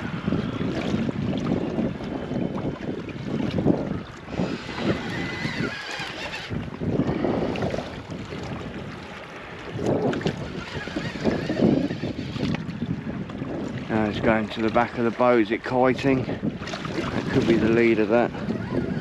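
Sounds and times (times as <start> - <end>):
water slapping boat hull: 0.0 - 19.0
wind buffeting microphone: 0.0 - 19.0.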